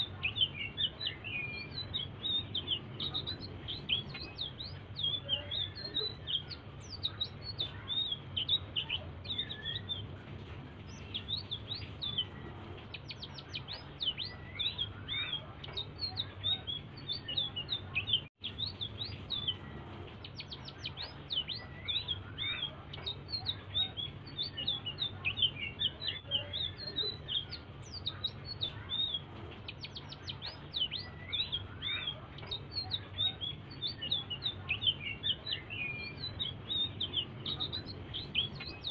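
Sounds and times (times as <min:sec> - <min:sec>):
songbird chattering song: 0:00.0 - 0:38.9.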